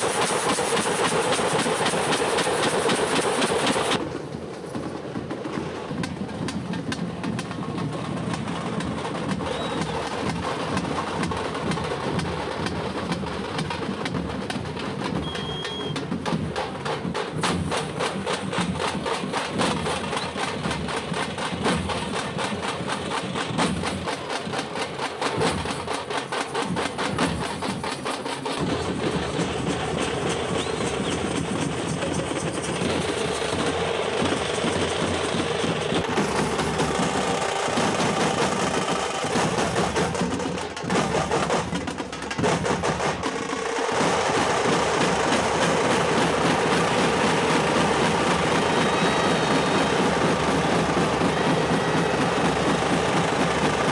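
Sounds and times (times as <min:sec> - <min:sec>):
frame drums beaten with sticks: 0:00.0 - 0:53.9.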